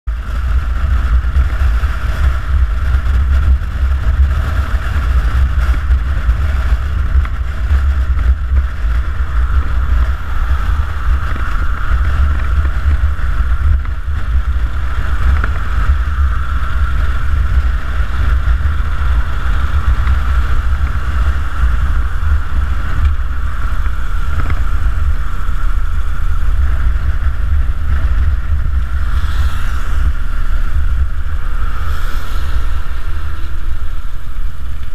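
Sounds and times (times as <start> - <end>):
motorcycle engine cruising: 0.1 - 34.9
wind rushing on microphone: 0.1 - 34.9.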